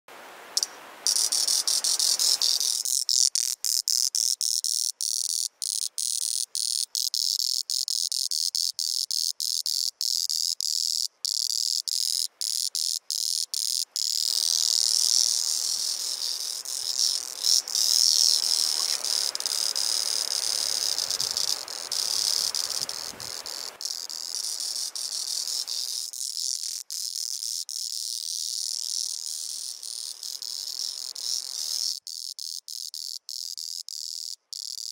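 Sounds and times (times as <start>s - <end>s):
cicada buzzing drone: 0.6s - 34.9s.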